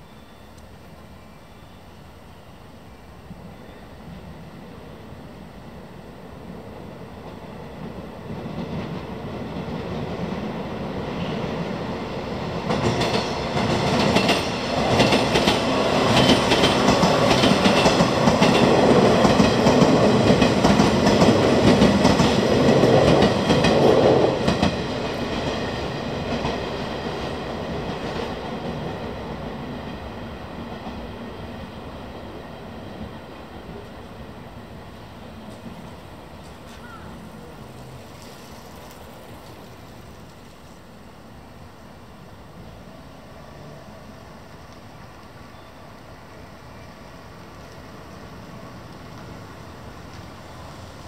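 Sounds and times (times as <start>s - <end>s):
electric train passing: 0.0s - 51.0s.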